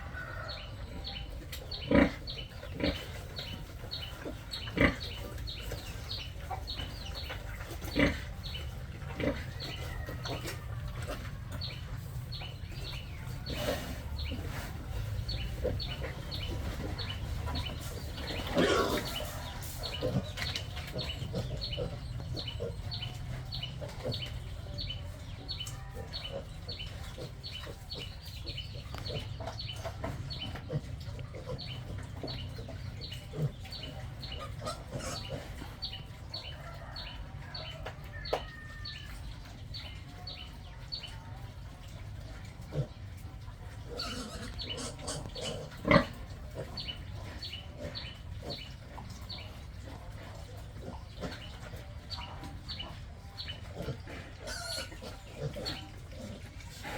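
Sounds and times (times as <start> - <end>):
chickens clucking: 0.0 - 56.9.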